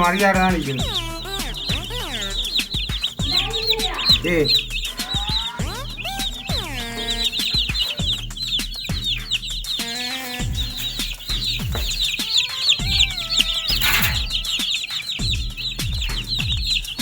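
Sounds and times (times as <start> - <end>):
chickens peeping: 0.0 - 17.0.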